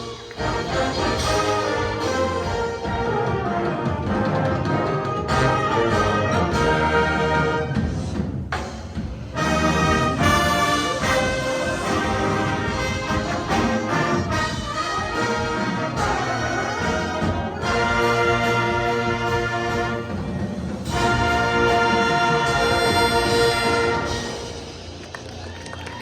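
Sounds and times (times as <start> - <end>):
wind ensemble playing chords: 0.0 - 8.2, 9.3 - 25.1.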